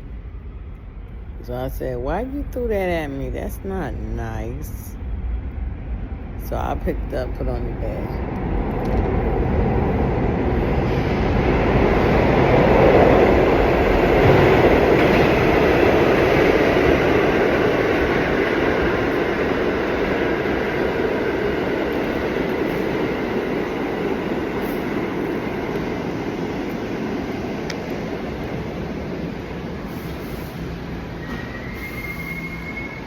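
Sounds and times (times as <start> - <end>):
subway train running on tracks: 0.0 - 33.0.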